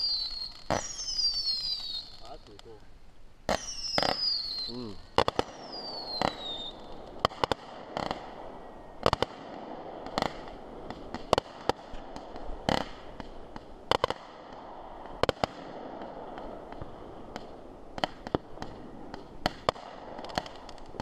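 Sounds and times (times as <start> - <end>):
fireworks bangs: 0.0 - 2.8, 3.4 - 21.0.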